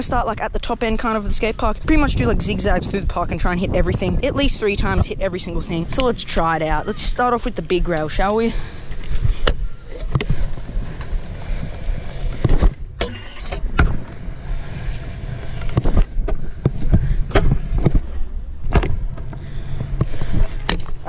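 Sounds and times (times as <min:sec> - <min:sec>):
scooter wheels rumbling on concrete: 0:00.0 - 0:21.0.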